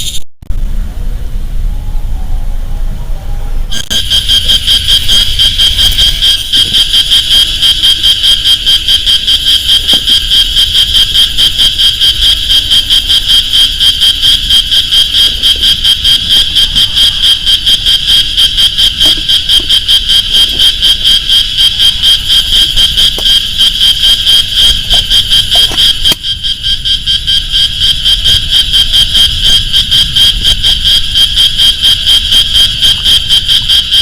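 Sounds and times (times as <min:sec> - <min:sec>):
frogs calling in chorus: 0:03.7 - 0:34.0.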